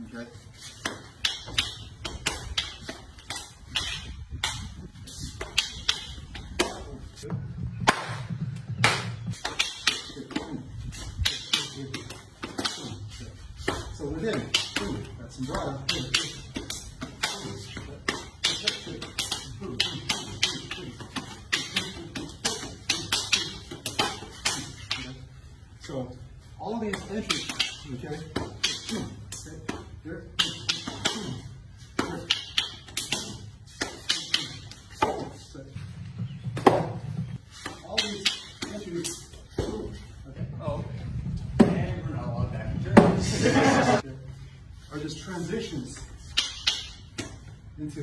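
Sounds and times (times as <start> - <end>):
fighting sticks clacking: 0.5 - 26.0, 26.7 - 35.5, 36.6 - 40.1, 45.8 - 47.6.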